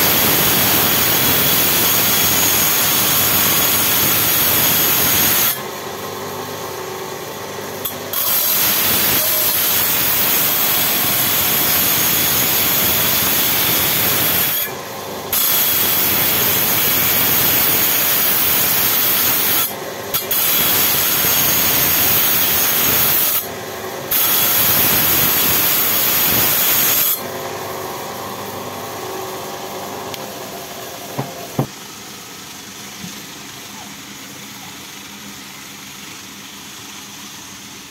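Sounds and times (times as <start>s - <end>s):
grinding wheel motor running: 0.0s - 31.7s.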